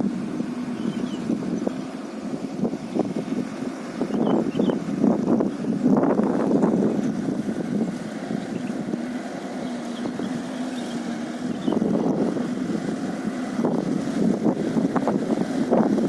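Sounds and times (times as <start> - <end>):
dump truck engines passing: 0.0 - 16.0.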